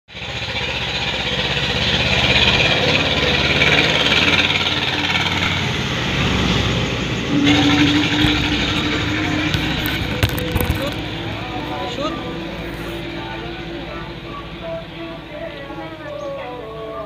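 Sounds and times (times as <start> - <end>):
mechanical drone: 0.1 - 14.7
low hum: 0.1 - 16.3.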